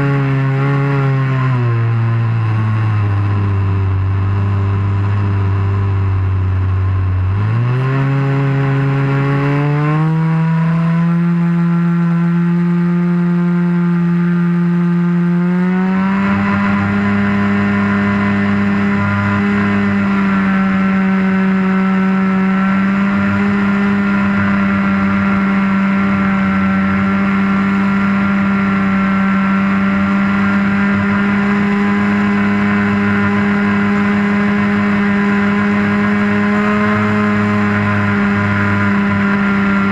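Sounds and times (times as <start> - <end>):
model airplane engine revving: 0.0 - 39.9.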